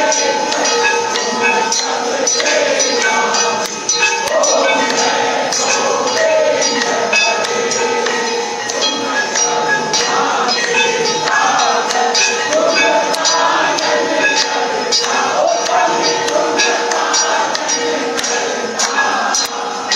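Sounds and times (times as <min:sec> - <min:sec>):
bells and cymbals clattering: 0:00.0 - 0:19.9
steady ringing tone: 0:00.0 - 0:19.9
voices chanting: 0:00.0 - 0:19.9.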